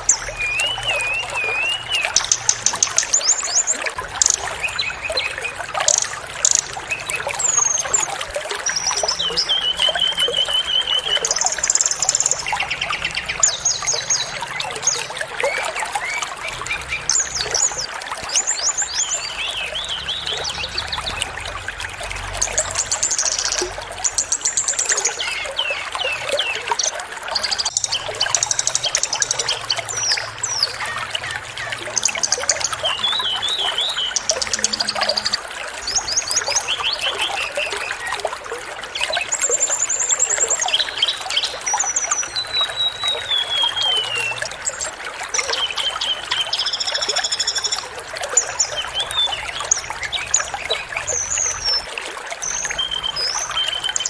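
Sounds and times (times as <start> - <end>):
running water: 0.0 - 54.0
songbirds chirping and trilling: 0.0 - 54.0.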